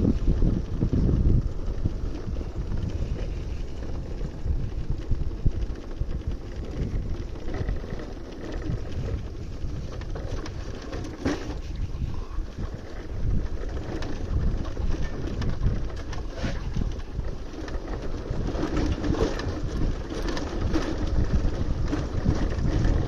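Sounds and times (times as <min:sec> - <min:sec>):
motorcycle engine running: 0:00.0 - 0:23.0
wind on microphone: 0:00.0 - 0:23.0.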